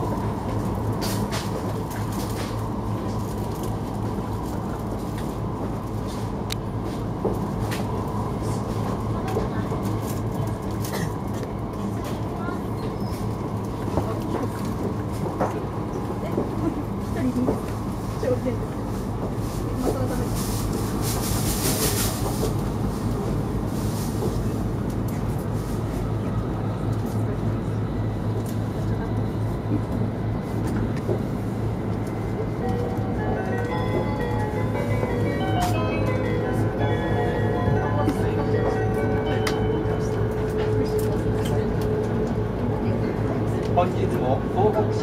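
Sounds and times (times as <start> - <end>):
train cabin rumble and hum: 0.0 - 45.0.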